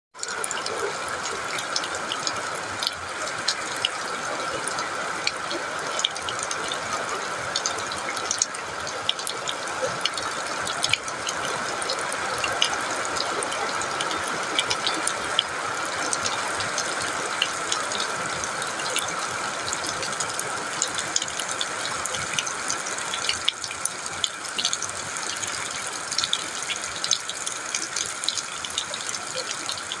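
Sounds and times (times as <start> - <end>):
steady rainfall: 0.2 - 30.0.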